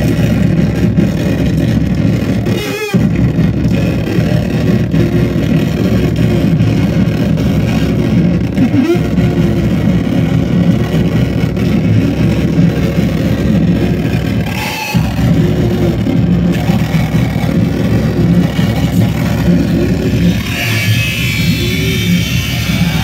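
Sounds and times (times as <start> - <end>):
harsh noise music: 0.0 - 23.0.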